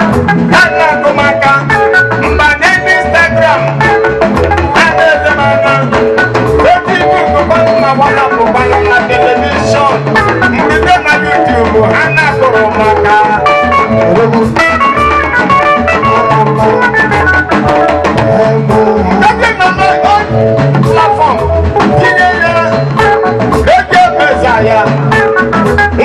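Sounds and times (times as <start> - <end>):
music with drum beat: 0.0 - 26.0.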